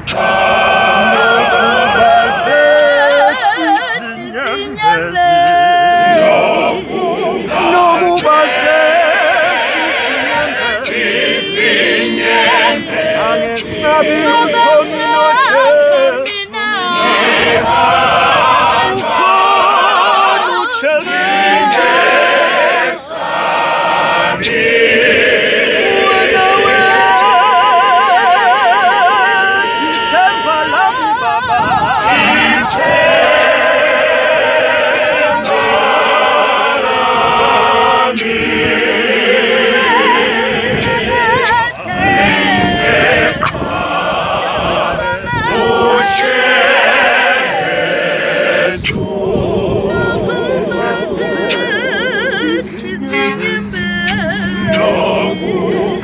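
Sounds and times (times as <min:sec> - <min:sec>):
male choir singing a cappella: 0:00.0 - 0:56.0.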